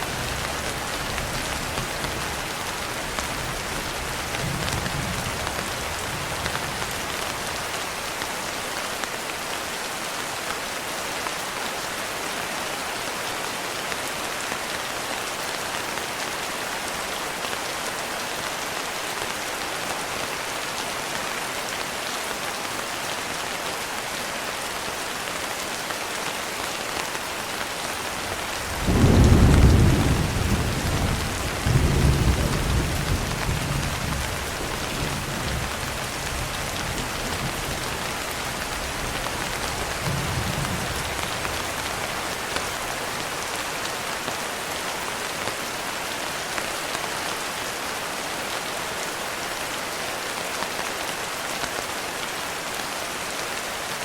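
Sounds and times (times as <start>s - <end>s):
rain pattering on a window: 0.0s - 47.6s.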